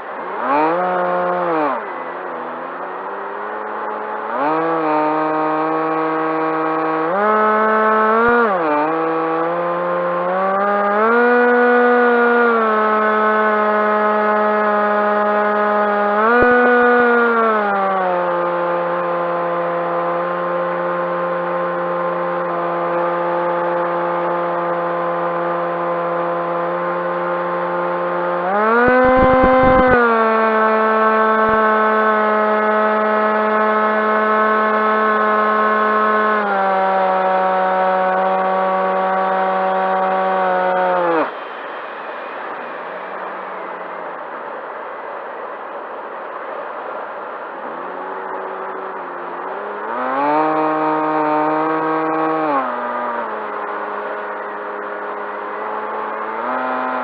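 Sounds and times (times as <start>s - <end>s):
model plane electric motor whine: 0.0s - 44.0s, 47.4s - 57.0s.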